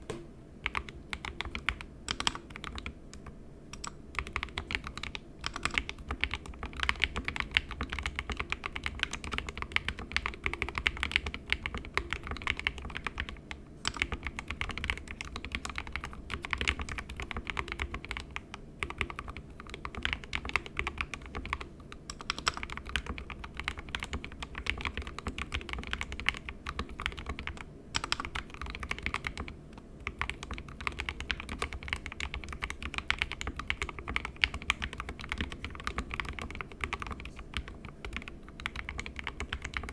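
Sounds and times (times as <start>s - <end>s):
typing on mechanical keyboard: 0.6s - 39.9s.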